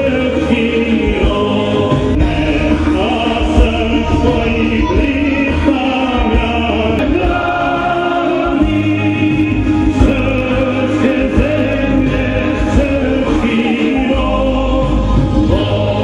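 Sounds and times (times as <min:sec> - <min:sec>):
choir singing held notes: 0:00.0 - 0:16.0.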